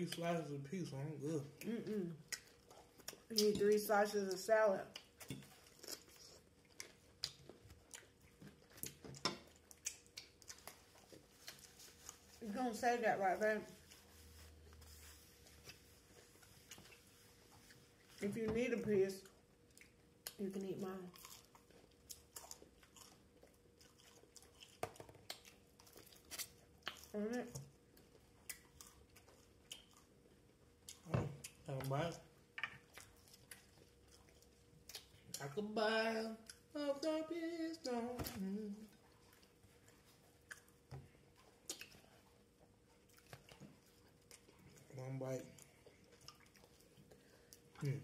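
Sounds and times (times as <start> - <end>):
faint chewing with soft crunches: 0.0 - 35.7, 36.4 - 36.8, 37.6 - 48.0.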